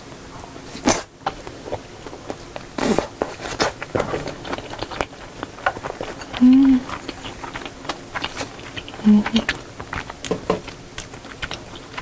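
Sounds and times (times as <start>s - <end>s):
wet chewing clicks: 0.8s - 12.0s.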